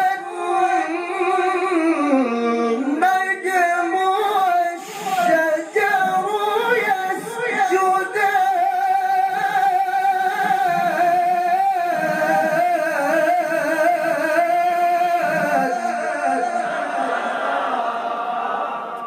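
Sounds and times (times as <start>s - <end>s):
man chanting melodically: 0.0s - 17.6s.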